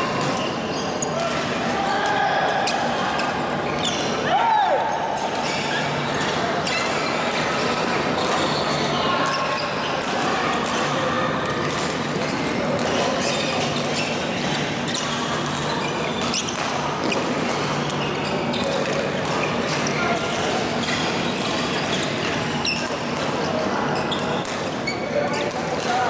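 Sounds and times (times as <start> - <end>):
reverberant hall background: 0.0 - 26.0.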